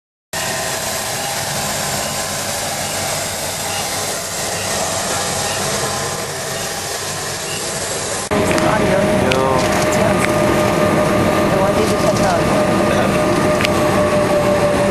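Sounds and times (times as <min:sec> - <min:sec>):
jet turbine whine: 0:00.4 - 0:14.9.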